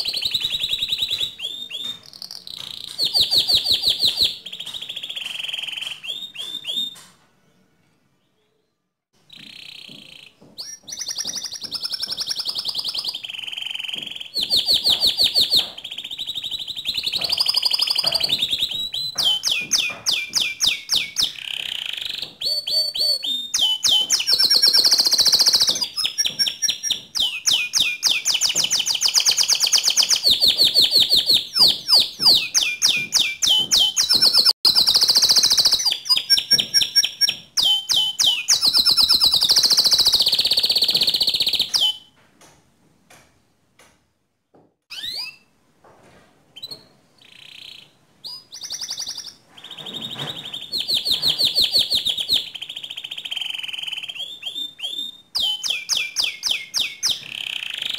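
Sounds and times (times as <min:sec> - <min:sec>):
canary singing trills: 0:00.0 - 0:07.2, 0:09.2 - 0:42.1, 0:44.9 - 0:45.5, 0:46.6 - 0:57.9.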